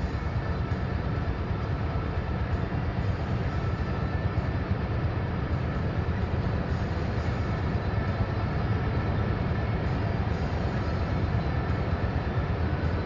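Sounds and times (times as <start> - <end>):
car engine droning: 0.0 - 13.0
wind and road noise: 0.0 - 13.0.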